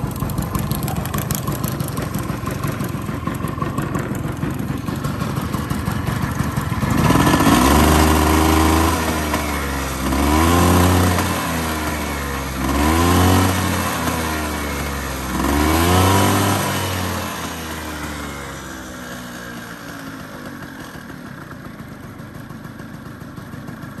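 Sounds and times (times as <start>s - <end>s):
scooter engine revving and idling: 0.0s - 24.0s.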